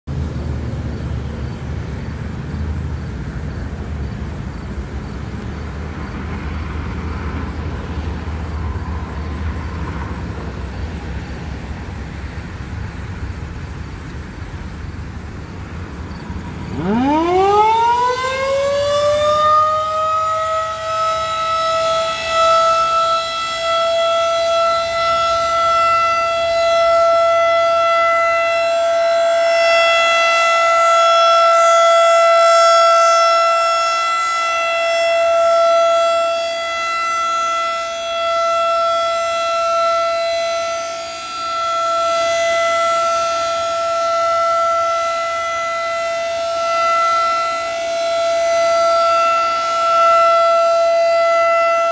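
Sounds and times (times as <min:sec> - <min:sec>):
rotating warning siren: 0:00.4 - 0:51.9.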